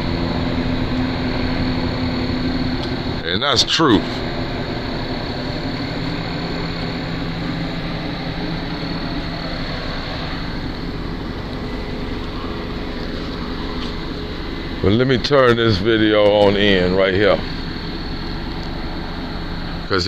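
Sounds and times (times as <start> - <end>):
helicopter rotor and engine drone: 0.0 - 20.0.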